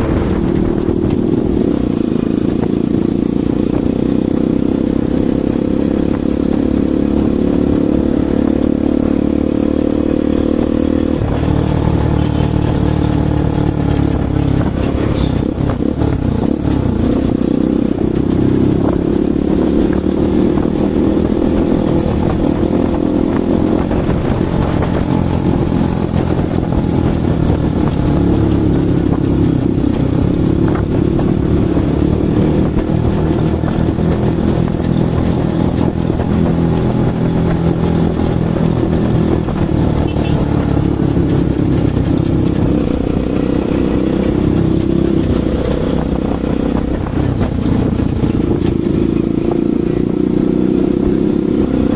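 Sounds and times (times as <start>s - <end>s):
motorcycle engine exhaust note: 0.0s - 51.9s.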